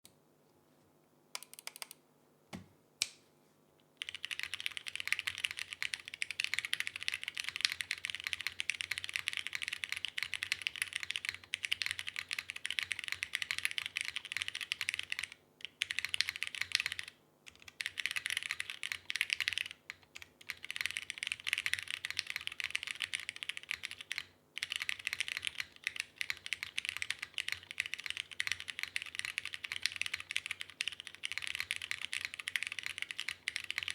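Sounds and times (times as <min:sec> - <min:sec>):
typing on mechanical keyboard: 0:01.4 - 0:02.0, 0:04.0 - 0:33.9.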